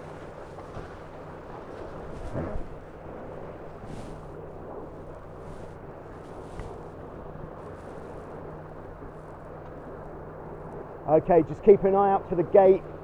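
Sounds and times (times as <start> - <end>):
rush of wind and water: 0.0 - 13.0.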